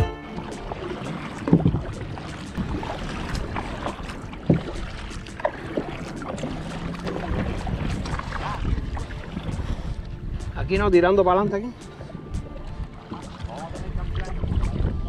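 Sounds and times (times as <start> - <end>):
kayak paddle splashing: 0.0 - 15.0
water lapping against hull: 0.0 - 15.0.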